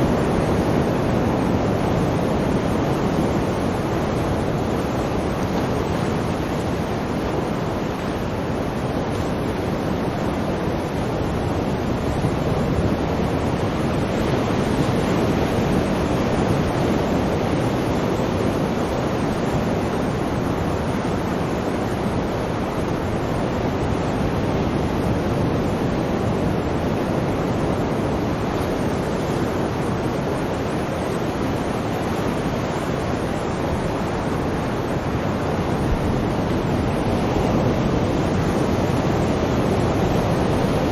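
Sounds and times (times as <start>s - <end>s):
sea waves rushing: 0.0s - 40.9s.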